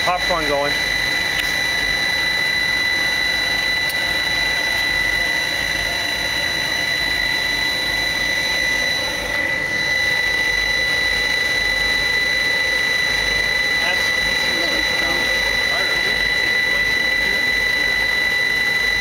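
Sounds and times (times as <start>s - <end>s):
boiler burner rushing: 0.0s - 19.0s
steady high tone: 0.0s - 19.0s.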